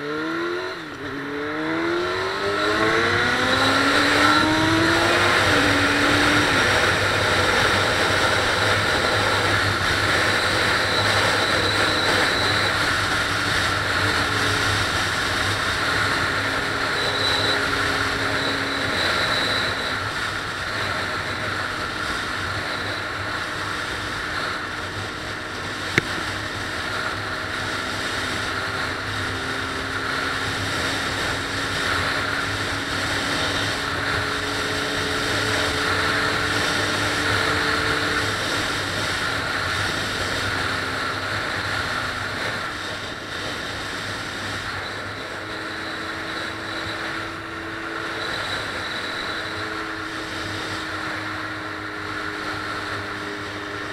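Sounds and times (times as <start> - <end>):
road and wind noise: 0.0 - 53.9
vehicle engine drone: 0.0 - 53.9.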